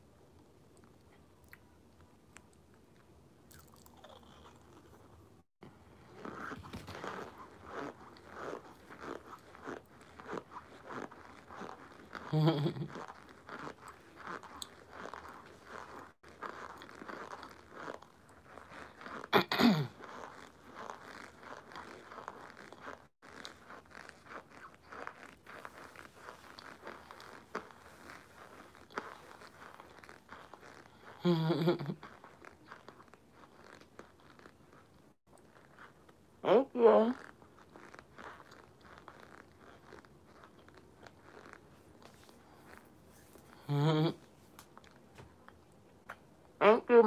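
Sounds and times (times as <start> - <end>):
crunching and chewing: 0.7 - 36.4, 37.1 - 46.6.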